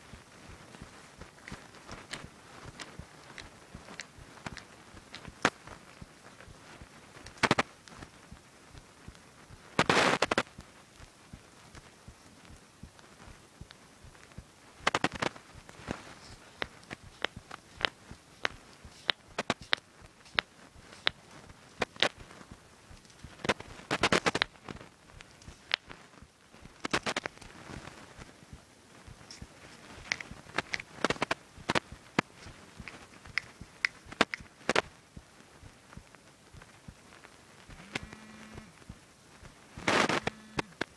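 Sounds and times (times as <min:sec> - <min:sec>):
knuckles cracking: 0:00.1 - 0:35.0.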